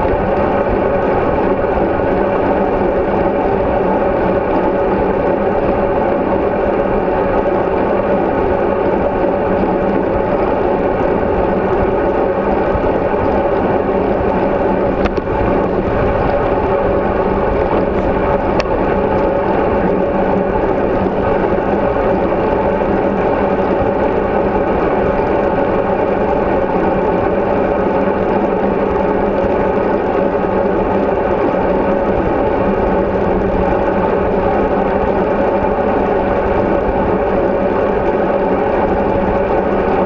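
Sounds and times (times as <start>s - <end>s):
bicycle tyre noise: 0.0s - 40.0s
wind rush: 0.0s - 40.0s.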